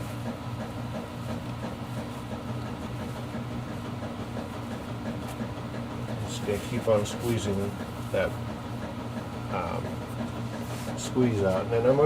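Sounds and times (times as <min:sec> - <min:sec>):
low mechanical hum of machinery: 0:00.0 - 0:12.0.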